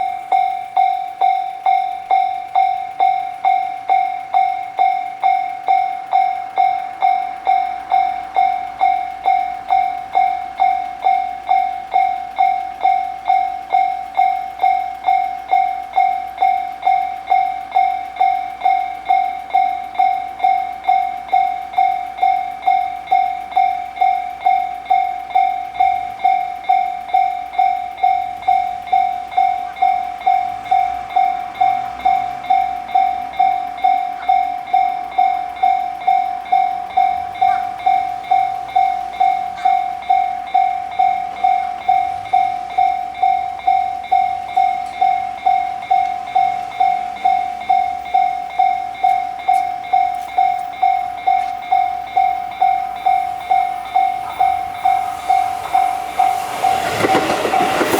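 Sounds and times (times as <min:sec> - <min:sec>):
faint train passing: 0:00.0 - 0:57.9
railroad crossing bell ringing: 0:00.0 - 0:57.9.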